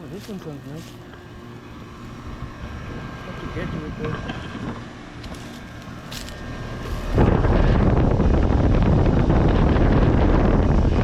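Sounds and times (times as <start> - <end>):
air conditioner fan air rushing: 0.0 - 11.0
compressor hum: 0.0 - 11.0.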